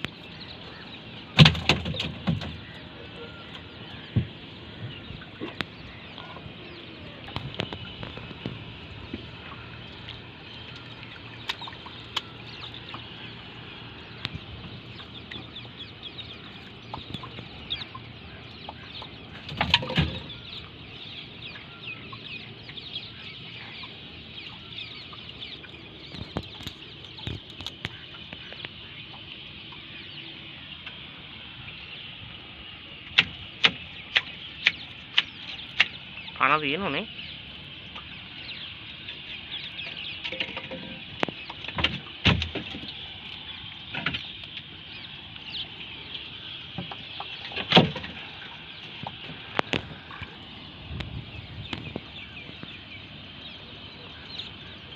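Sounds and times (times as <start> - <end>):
birds chattering and calling: 0.0 - 54.9.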